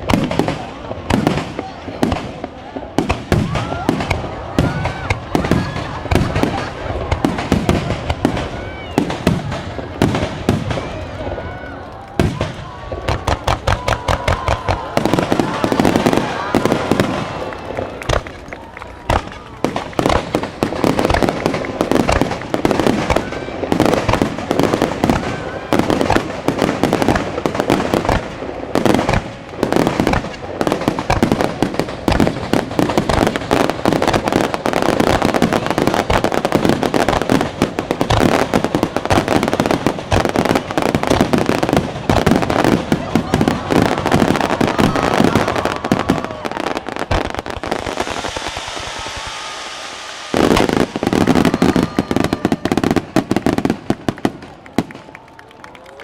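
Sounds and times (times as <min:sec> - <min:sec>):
fireworks bangs and crackles: 0:00.0 - 0:56.0
people's voices: 0:00.0 - 0:56.0.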